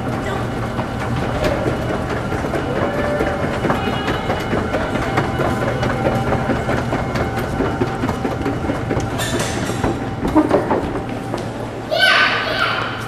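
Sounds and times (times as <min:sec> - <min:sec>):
escalator humming and clattering: 0:00.0 - 0:13.0.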